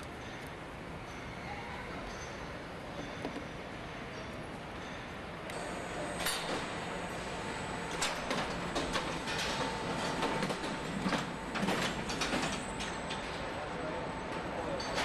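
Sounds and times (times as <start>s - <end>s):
steady factory hum: 0.0s - 15.0s.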